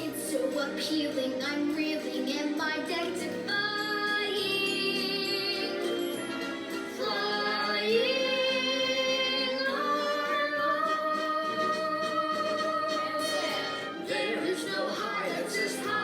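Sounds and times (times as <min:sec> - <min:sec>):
backing track music: 0:00.0 - 0:16.0
person singing: 0:00.0 - 0:16.0.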